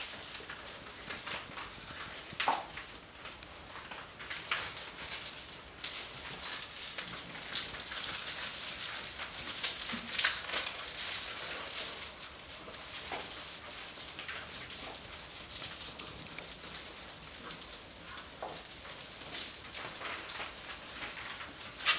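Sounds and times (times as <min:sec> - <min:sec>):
puppy paws scrabbling on floor: 0:00.0 - 0:21.9.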